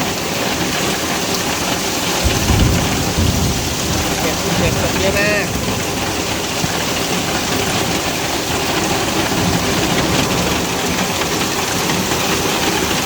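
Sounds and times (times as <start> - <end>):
hail and heavy rain pelting: 0.0 - 13.0.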